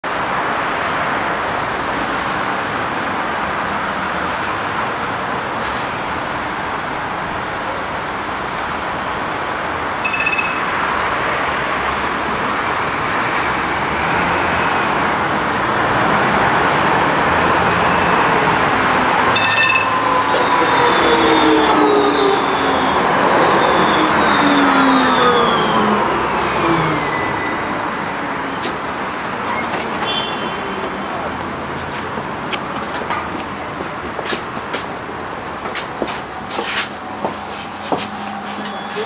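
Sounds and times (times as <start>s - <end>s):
city traffic: 0.0s - 39.0s.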